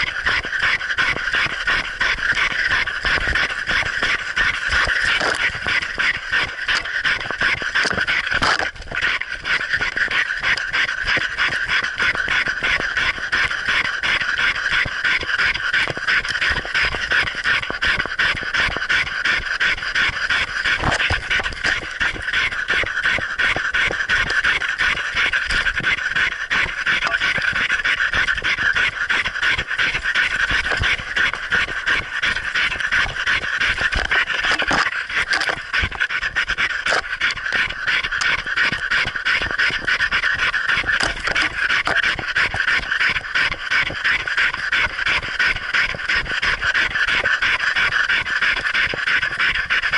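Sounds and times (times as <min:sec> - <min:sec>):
dog panting: 0:00.0 - 0:49.9.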